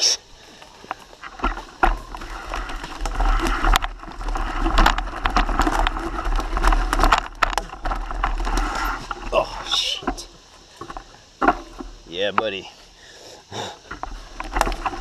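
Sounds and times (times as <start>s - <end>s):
bike rattling over bumps: 0.0s - 13.0s, 13.8s - 15.0s
tyres crunching through leaves: 0.0s - 13.0s.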